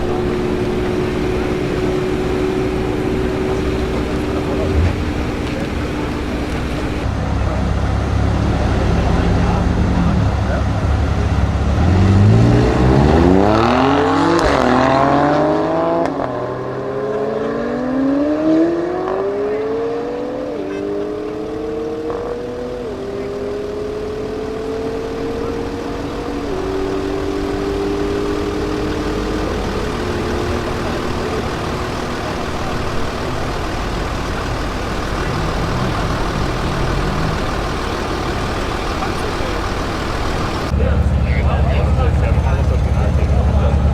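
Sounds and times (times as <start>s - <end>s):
car engine accelerating through gears: 0.0s - 43.9s.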